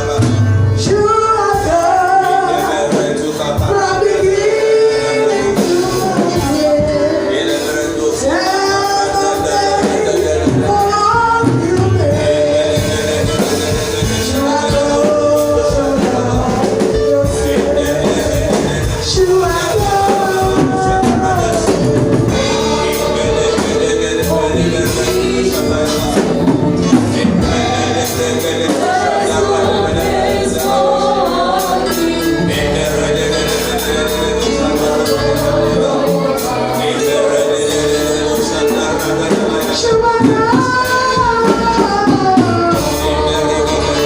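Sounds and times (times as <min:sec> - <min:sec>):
gospel choir singing: 0:00.0 - 0:44.0
live band with percussion: 0:00.0 - 0:44.0.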